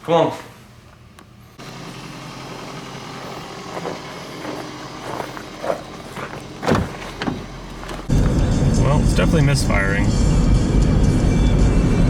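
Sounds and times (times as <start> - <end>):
misfiring car engine humming: 1.6 - 12.0.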